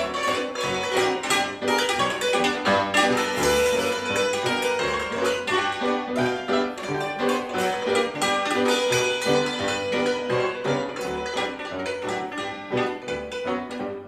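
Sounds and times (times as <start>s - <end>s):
grand piano bass notes: 0.0s - 14.0s.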